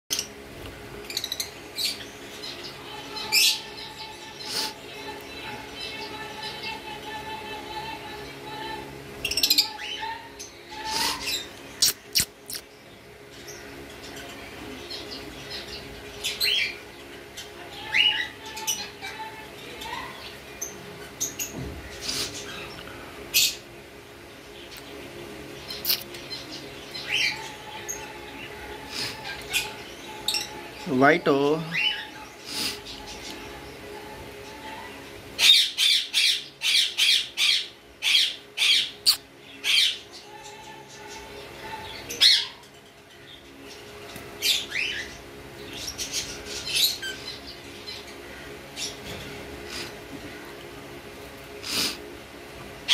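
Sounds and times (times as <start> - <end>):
faint steady hum: 0.1 - 52.9.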